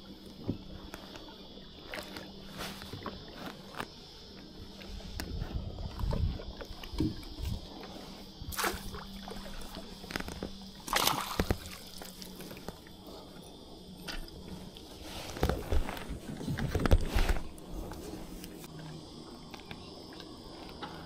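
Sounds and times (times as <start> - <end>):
water sloshing and splashing: 0.0 - 18.9.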